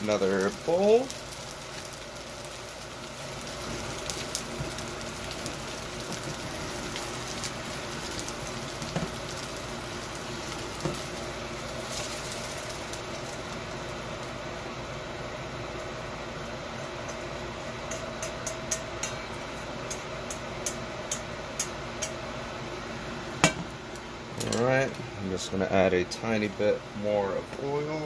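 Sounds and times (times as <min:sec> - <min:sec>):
food sizzling in a wok: 0:00.0 - 0:25.2.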